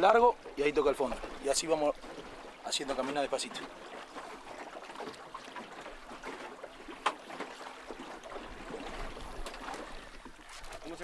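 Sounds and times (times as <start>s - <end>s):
river current against boat hull: 0.0s - 11.0s.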